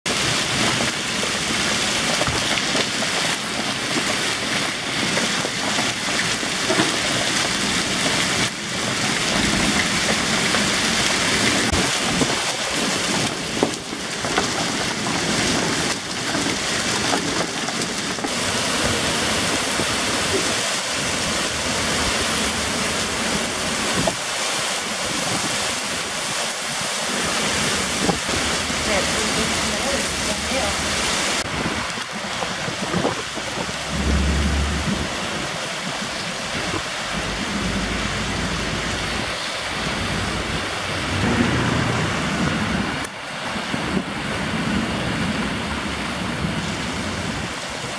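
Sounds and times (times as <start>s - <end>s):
heavy rain on pavement: 0.0s - 47.9s.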